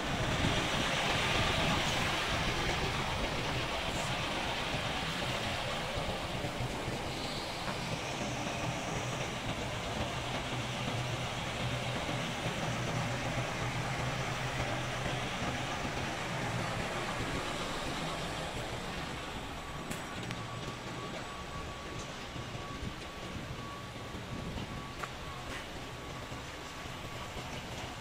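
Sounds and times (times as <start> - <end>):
truck diesel engine drone: 0.0 - 28.0.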